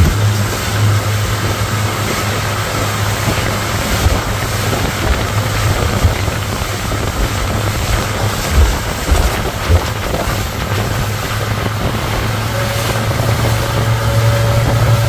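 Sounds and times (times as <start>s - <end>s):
churning wake water: 0.0s - 15.0s
outboard motor running: 0.0s - 15.0s
wind buffeting microphone: 0.0s - 15.0s.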